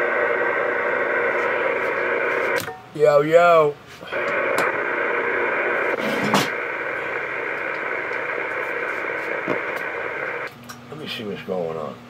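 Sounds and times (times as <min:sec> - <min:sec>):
radio static hiss: 0:00.0 - 0:02.6, 0:03.4 - 0:10.5.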